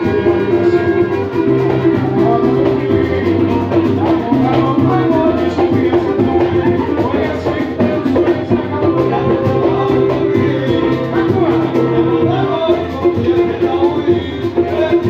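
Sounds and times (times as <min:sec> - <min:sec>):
samba music with percussion: 0:00.0 - 0:15.0.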